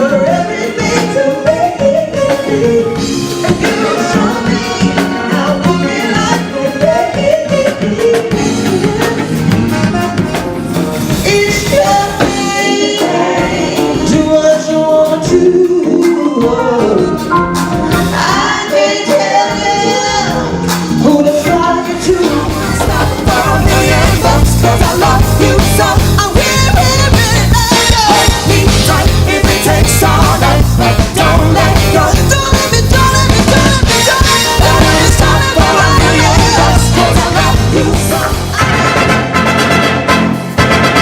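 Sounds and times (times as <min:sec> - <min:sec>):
voices singing: 0:00.0 - 0:09.5, 0:11.2 - 0:39.2
live soul band playing: 0:00.0 - 0:41.0.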